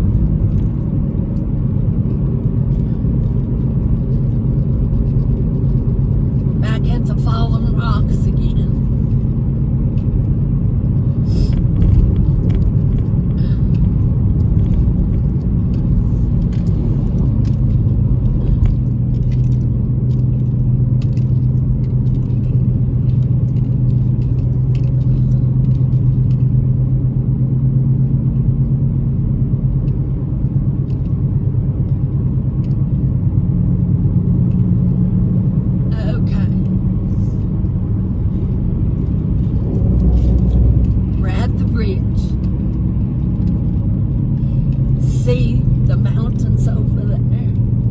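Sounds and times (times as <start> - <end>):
car engine hum: 0.0 - 47.9
road noise rumble: 0.0 - 47.9.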